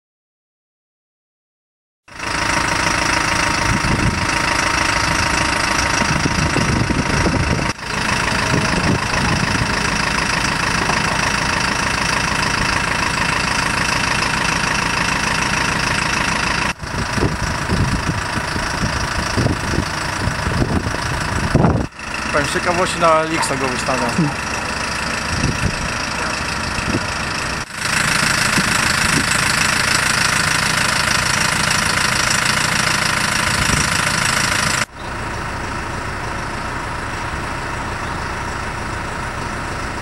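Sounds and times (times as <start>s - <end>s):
diesel engine idling: 2.1s - 40.0s.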